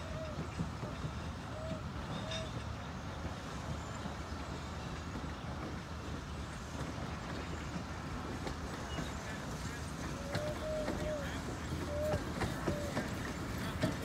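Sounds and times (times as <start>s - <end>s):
train rolling on rails: 0.0s - 14.0s.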